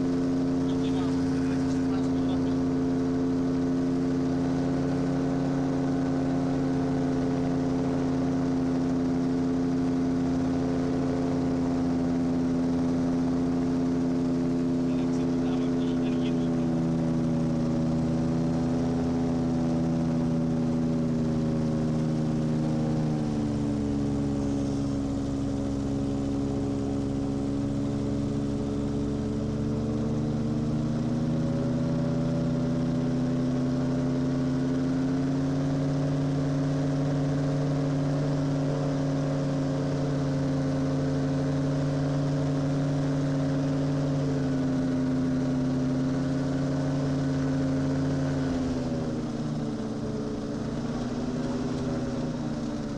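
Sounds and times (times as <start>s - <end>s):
gyrocopter engine drone: 0.0s - 52.9s.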